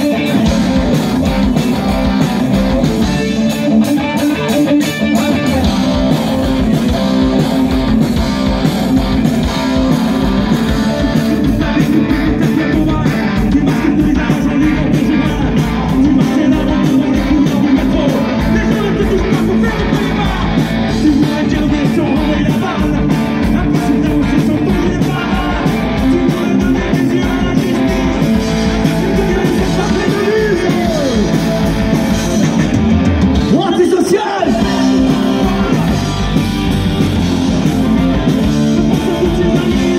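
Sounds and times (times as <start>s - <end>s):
drums keeping a steady beat: 0.0s - 39.9s
electric guitar: 0.0s - 39.9s
person singing: 2.8s - 7.4s, 9.2s - 31.7s, 33.5s - 36.4s, 37.9s - 39.9s.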